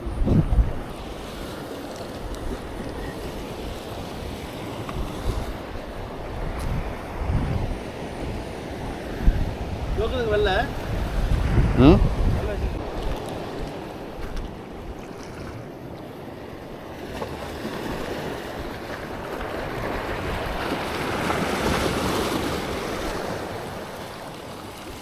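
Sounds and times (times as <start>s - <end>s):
waves washing on shore: 0.0s - 25.0s
wind buffeting microphone: 0.0s - 25.0s.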